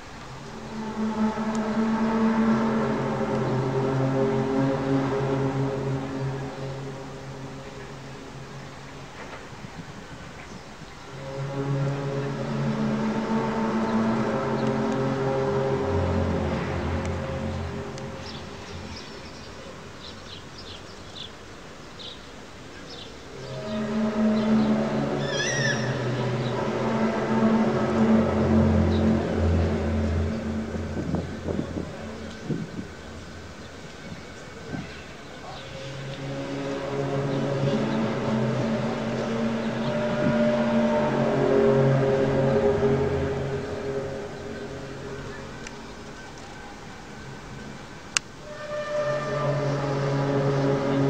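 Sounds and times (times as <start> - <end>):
low droning horn-like tones: 0.0 - 51.0.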